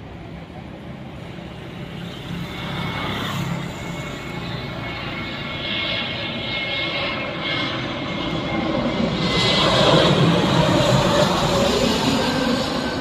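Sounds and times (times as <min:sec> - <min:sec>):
jet engines on approach: 0:00.0 - 0:13.0.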